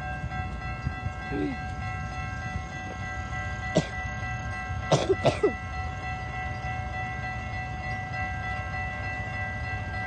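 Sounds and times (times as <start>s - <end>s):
distant train rumble: 0.0s - 10.0s.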